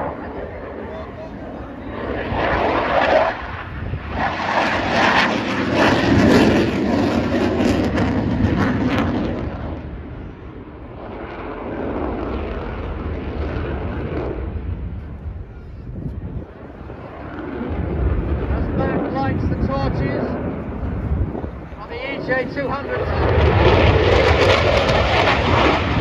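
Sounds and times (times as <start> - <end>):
jet flying past overhead: 0.0 - 26.0.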